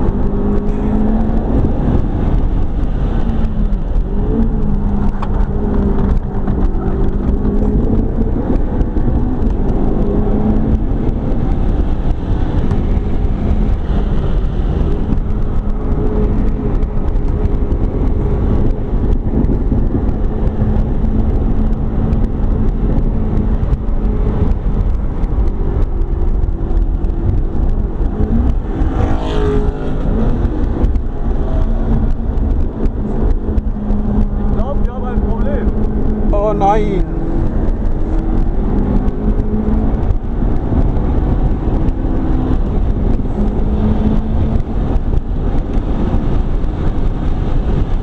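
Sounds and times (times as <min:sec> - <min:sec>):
harsh engine rush: 0:00.0 - 0:48.0
road and wind noise: 0:00.0 - 0:48.0
sports car engine running hard: 0:00.0 - 0:48.0.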